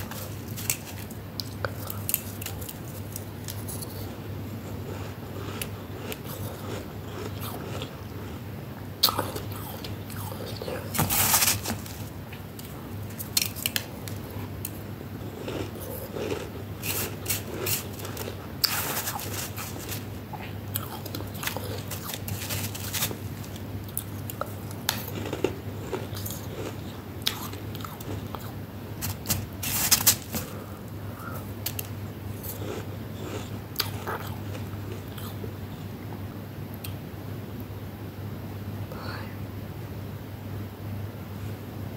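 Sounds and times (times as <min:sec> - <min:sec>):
chewing crunchy frost: 0:00.0 - 0:08.4, 0:09.0 - 0:35.4
steady low hum: 0:00.0 - 0:41.9.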